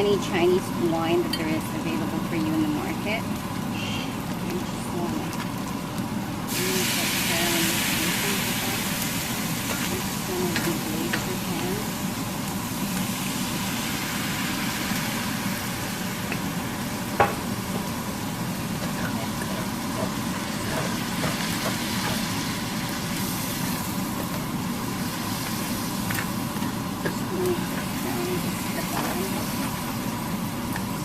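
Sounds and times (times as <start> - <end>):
ground beef sizzling in a pan: 0.0 - 31.0.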